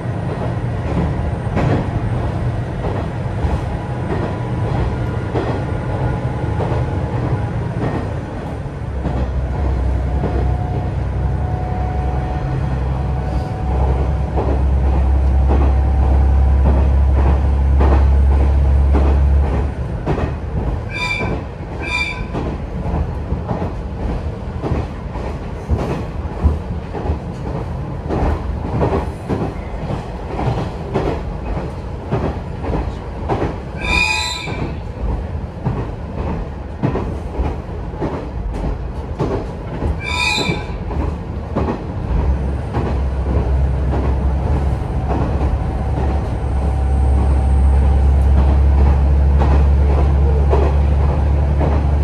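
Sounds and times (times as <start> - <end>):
train wheels clicking on track: 0.0 - 52.0.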